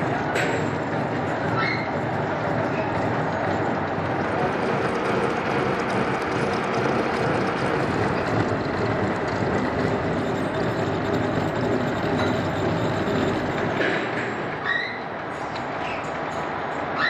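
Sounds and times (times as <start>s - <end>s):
milling machine cutting metal: 0.0s - 14.6s.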